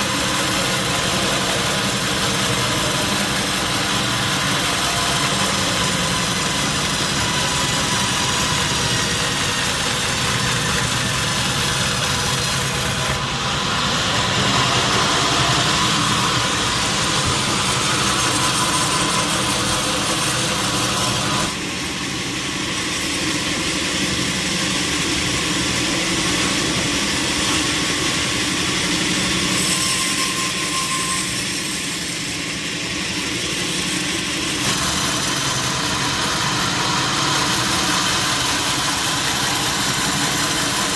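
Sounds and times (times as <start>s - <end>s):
sawmill machinery cutting logs: 0.0s - 40.9s.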